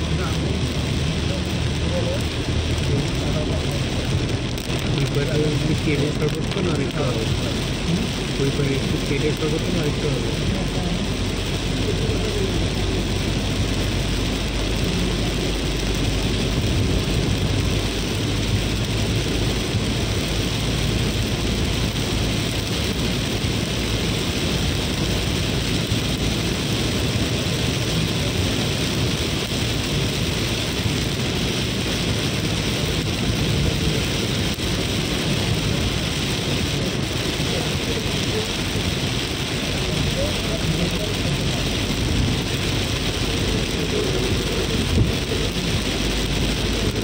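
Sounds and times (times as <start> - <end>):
heavy rain on car roof: 0.0 - 47.0
tyres on wet road: 0.0 - 47.0
vehicle running: 0.0 - 47.0.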